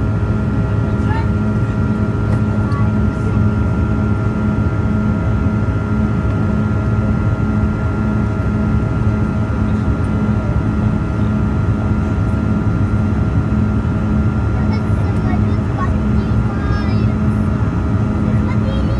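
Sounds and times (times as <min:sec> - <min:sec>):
jet engine drone in cabin: 0:00.0 - 0:18.9
thin steady whine: 0:00.0 - 0:18.9.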